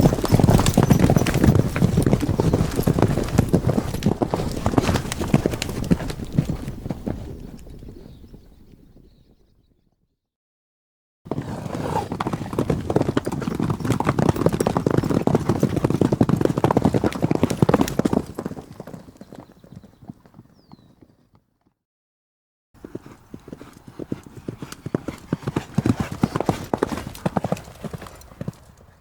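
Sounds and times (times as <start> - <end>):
horses galloping: 0.0 - 8.9, 11.3 - 21.4, 22.8 - 29.0.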